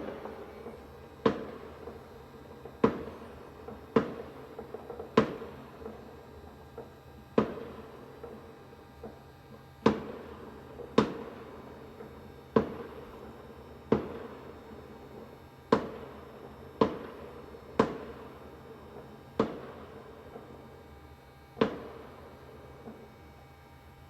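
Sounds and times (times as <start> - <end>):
fireworks bangs: 0.0 - 9.2, 9.8 - 20.8, 21.6 - 23.1.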